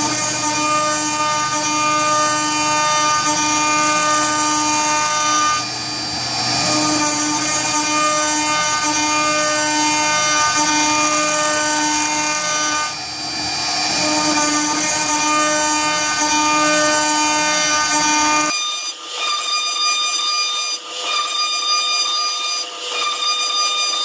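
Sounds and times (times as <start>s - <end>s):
router spindle whine: 0.0s - 24.0s.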